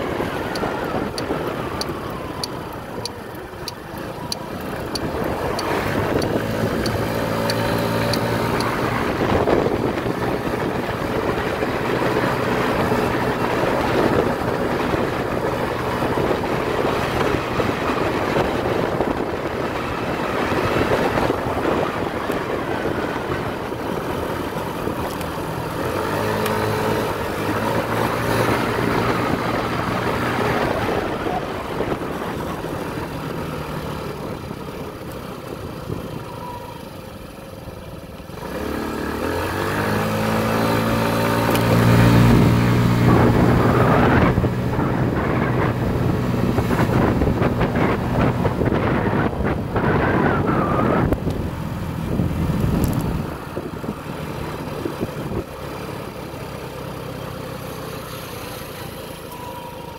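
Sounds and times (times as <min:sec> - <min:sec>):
wind rushing over microphone: 0:00.0 - 0:37.2, 0:38.3 - 0:56.0
motorcycle engine running: 0:00.0 - 0:59.9.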